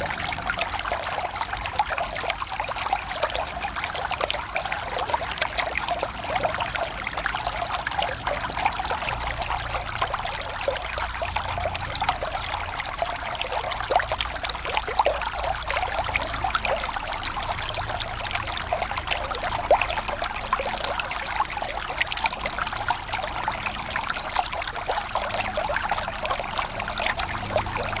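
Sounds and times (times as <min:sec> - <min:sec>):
river water flowing: 0:00.0 - 0:28.0.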